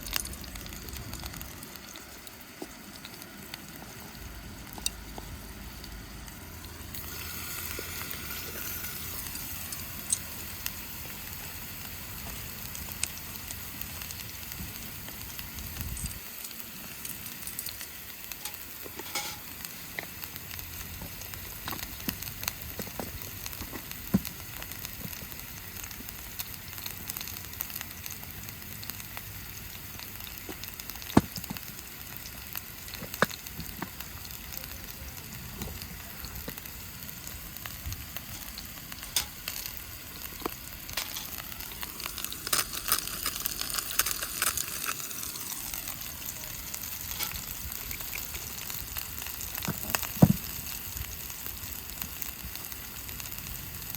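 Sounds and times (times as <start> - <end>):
oil popping: 0.0 - 34.6, 35.4 - 53.9
food sizzling in hot oil: 0.0 - 53.9.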